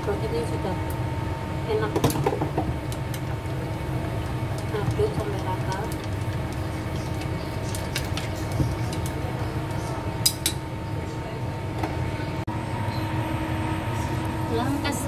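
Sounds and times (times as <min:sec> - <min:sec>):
low hum: 0:02.6 - 0:15.0.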